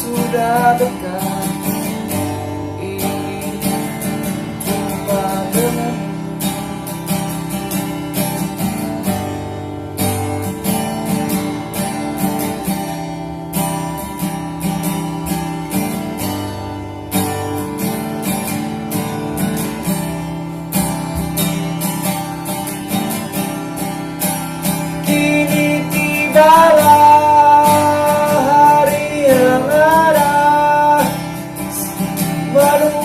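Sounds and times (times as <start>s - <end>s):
strummed acoustic guitar: 0.0s - 33.0s.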